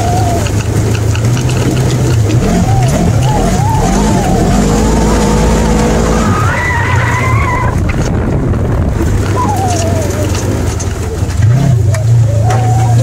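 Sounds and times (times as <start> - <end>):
tyres on gravel: 0.0 - 13.0
vehicle engine running: 0.0 - 13.0
wind rumble: 0.0 - 13.0.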